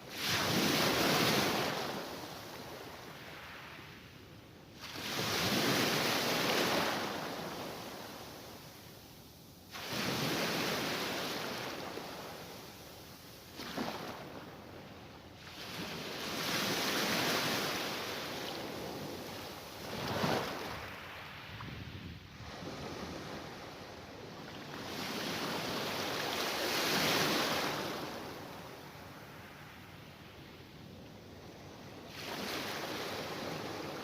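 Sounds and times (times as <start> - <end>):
waves washing onto shore: 0.0 - 4.0, 4.8 - 9.0, 9.6 - 30.2, 31.6 - 34.0.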